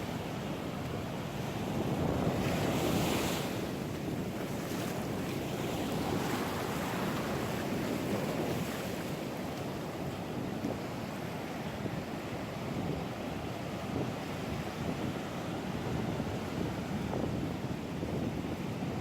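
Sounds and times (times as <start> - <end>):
wind buffeting microphone: 0.1 - 19.0.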